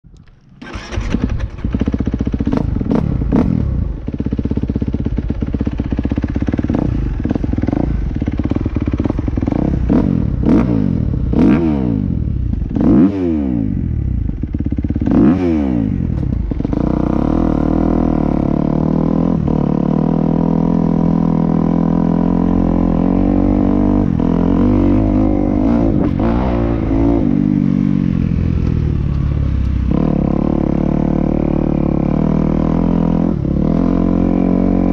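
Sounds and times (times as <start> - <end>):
motocross bike engine: 0.4 - 34.9.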